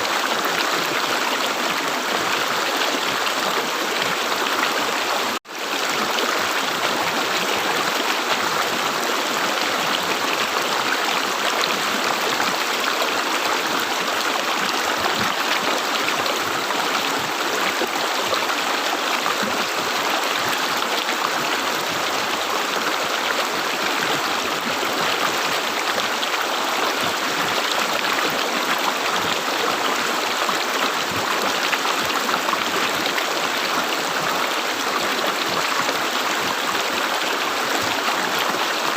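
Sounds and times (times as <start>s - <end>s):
river water flowing and gurgling: 0.0s - 38.9s.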